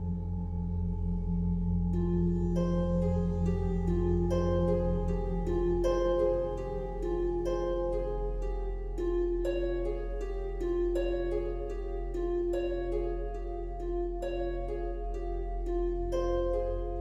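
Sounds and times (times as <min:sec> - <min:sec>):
held low bass: 0:00.0 - 0:17.0
plucked string melody: 0:01.8 - 0:17.0.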